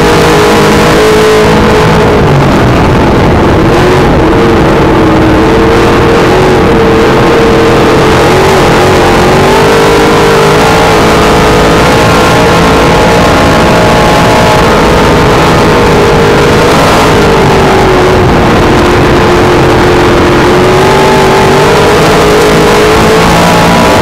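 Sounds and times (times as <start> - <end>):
race car engine running hard: 0.0 - 24.0.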